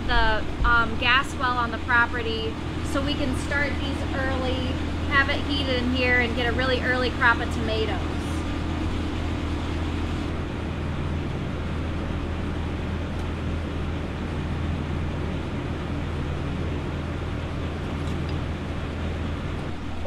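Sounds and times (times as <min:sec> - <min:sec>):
fans humming: 0:00.0 - 0:20.0.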